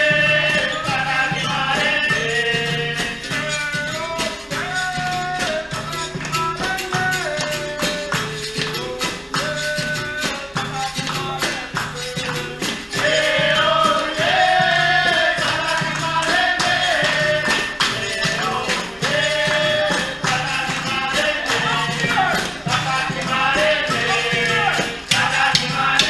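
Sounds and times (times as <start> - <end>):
berimbau: 0.0 - 26.0
group singing: 0.0 - 26.0
pandeiro: 0.0 - 26.0.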